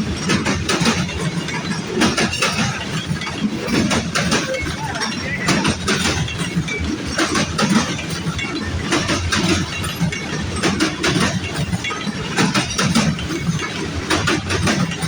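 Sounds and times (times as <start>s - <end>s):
freight train rumbling past: 0.0s - 15.0s
wheels clanking over rail joints: 0.0s - 15.0s.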